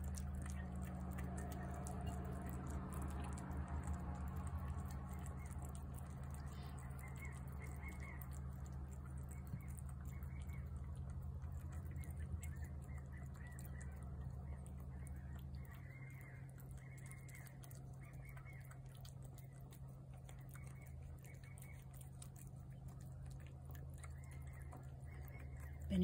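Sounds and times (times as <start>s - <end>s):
cat chewing and licking: 0.0s - 26.0s
steady low hum: 0.0s - 26.0s.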